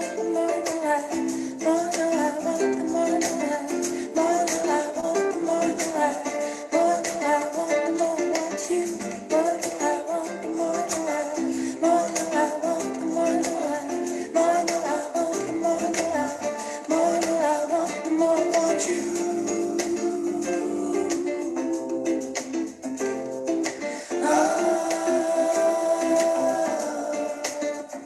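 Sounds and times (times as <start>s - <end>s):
light percussion beat: 0.0s - 28.0s
plucked strings: 0.0s - 28.0s.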